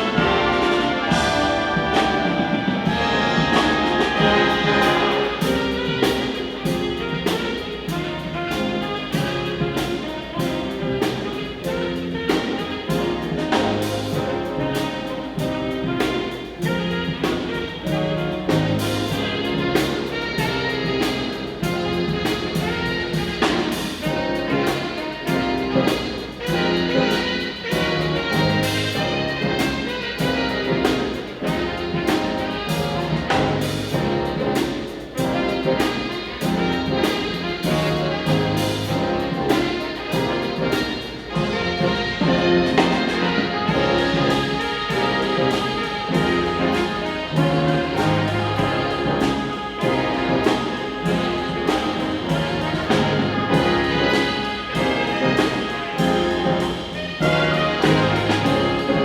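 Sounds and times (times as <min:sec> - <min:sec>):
brass and saxophones playing: 0:00.0 - 0:59.0
steady drum beat: 0:00.0 - 0:59.0.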